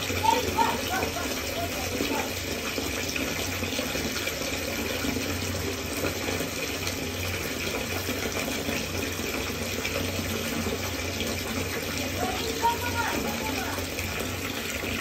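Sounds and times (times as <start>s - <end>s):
tap water pouring into bath: 0.0s - 15.0s.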